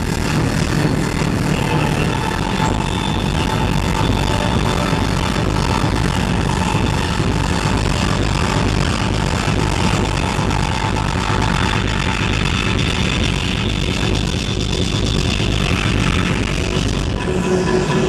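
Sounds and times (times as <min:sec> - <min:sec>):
electronic dance music: 0:00.0 - 0:18.0.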